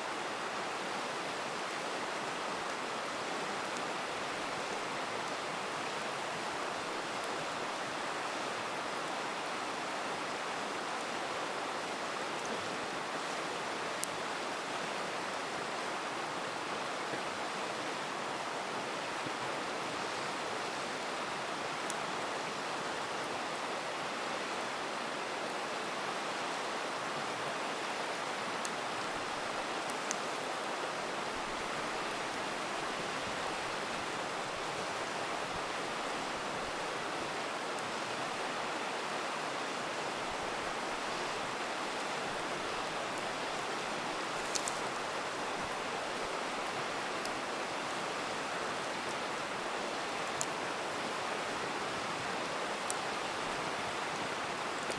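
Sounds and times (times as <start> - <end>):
river rushing: 0.0 - 54.9
campfire crackling: 0.1 - 54.9.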